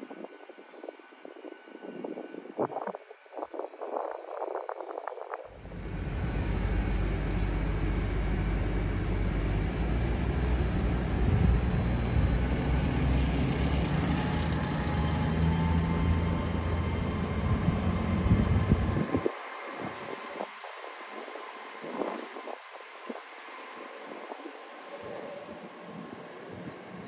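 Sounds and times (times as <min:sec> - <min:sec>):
passenger train rumbling: 0:00.0 - 0:27.0.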